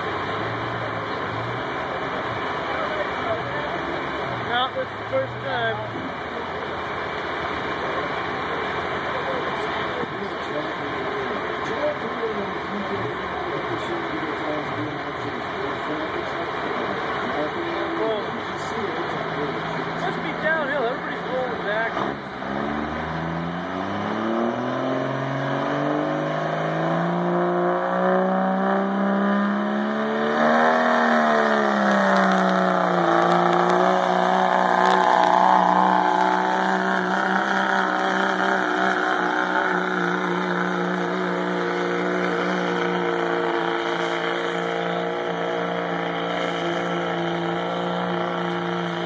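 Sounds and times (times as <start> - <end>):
diesel engine under heavy load: 0.0 - 49.0.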